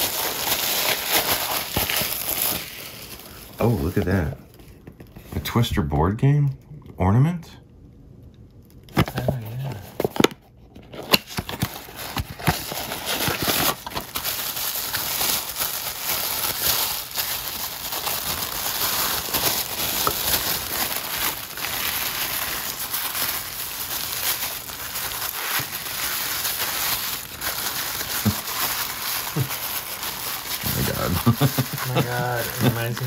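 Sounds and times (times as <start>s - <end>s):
tissue paper rustling and crinkling: 0.0s - 4.6s, 10.9s - 33.0s.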